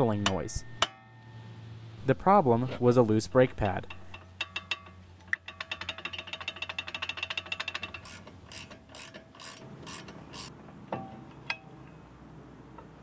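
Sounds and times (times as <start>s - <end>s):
metal scraping: 0.0s - 11.6s.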